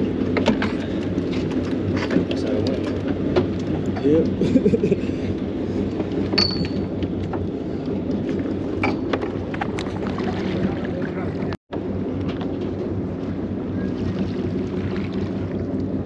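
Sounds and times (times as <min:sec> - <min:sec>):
boat engine humming: 0:00.0 - 0:16.0
water noise: 0:00.0 - 0:16.0
wind: 0:00.0 - 0:16.0.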